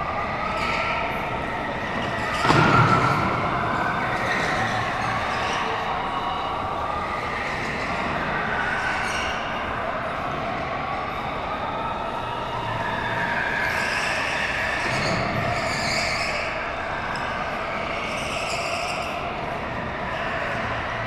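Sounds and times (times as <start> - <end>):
go-karts racing: 0.0 - 21.0.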